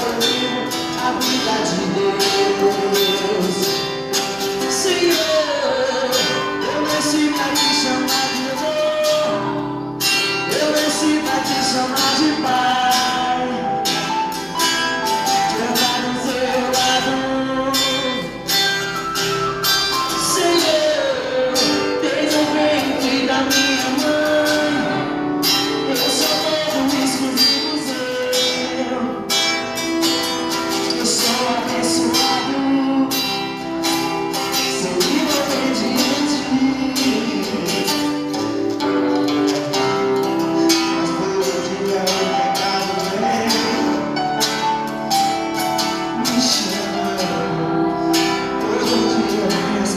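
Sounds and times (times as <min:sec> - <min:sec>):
person singing: 0:00.0 - 0:19.0, 0:19.8 - 0:49.9
band playing worship song: 0:00.0 - 0:49.9.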